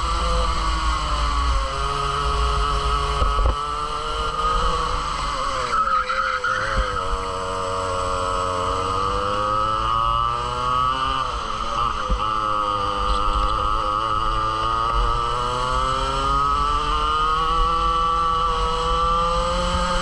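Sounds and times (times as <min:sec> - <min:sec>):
kart engine revving: 0:00.0 - 0:20.0.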